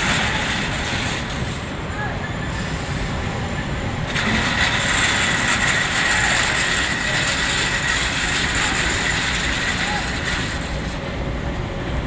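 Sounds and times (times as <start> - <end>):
low machine noise: 0.0 - 12.0.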